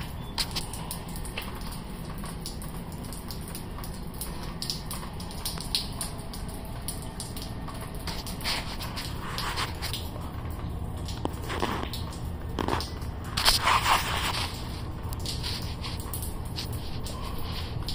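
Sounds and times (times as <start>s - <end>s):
water dripping into a puddle: 0.0s - 17.9s.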